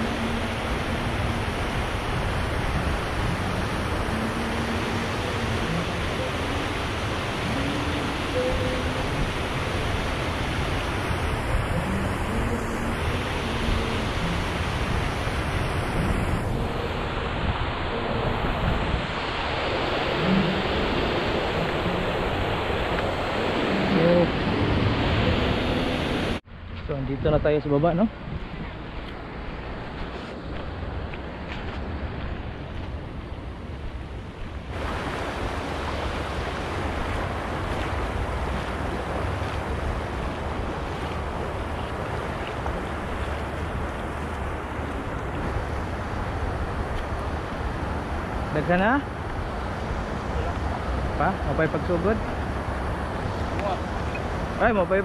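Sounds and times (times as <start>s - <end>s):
water rushing over weir: 0.0s - 26.4s, 28.1s - 55.0s
wind buffeting microphone: 0.0s - 55.0s.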